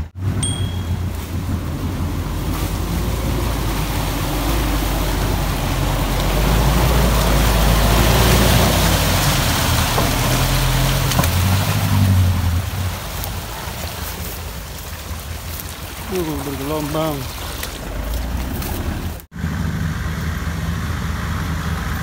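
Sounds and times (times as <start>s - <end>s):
vehicle engine running low: 0.0s - 22.0s
rushing water: 0.1s - 22.0s.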